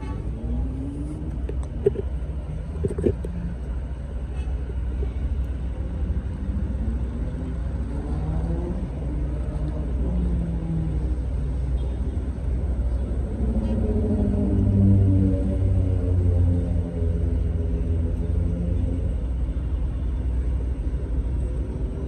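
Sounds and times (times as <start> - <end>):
low engine rumble with drone: 0.0 - 22.0.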